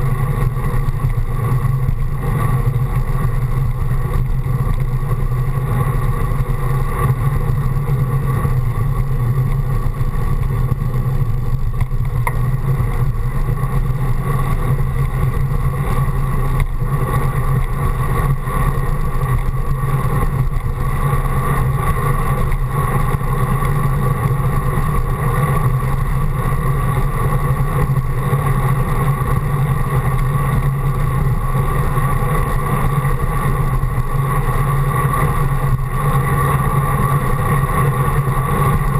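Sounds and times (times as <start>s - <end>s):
bicycle tyres rumbling on pavement: 0.0s - 38.9s.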